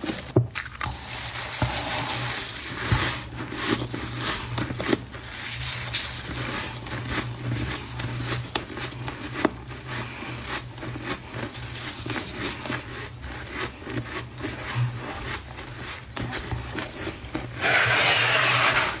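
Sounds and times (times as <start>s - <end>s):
steady rasp: 1.3s - 19.0s.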